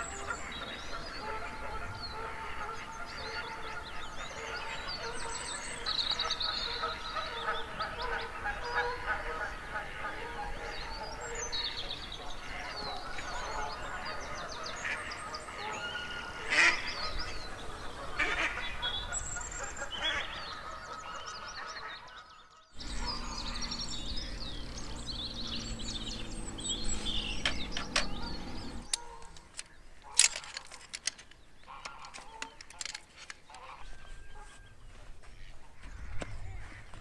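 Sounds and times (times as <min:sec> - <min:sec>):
loud bird call: 0:00.0 - 0:34.8
bird chorus: 0:00.0 - 0:37.0.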